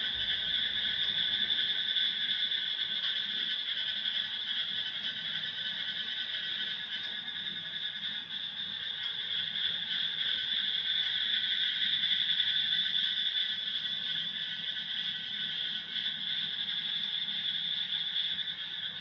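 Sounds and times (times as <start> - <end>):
frogs and insects calling: 0.0 - 19.0.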